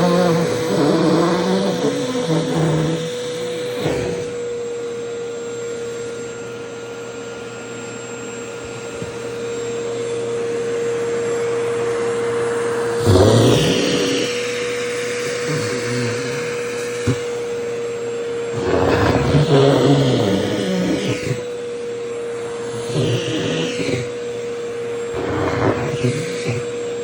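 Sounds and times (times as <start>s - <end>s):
vacuum cleaner whining: 0.0s - 27.0s.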